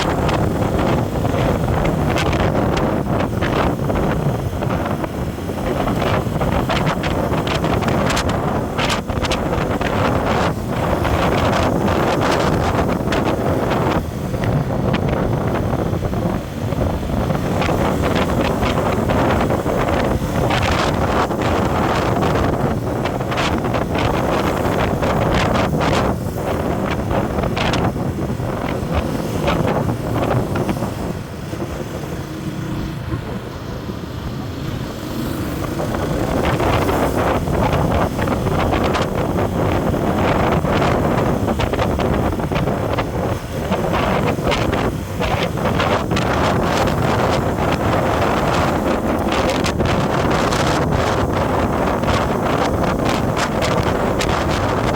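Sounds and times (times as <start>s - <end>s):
road vehicle rumbling: 0.0s - 54.9s
wind buffeting microphone: 0.0s - 54.9s.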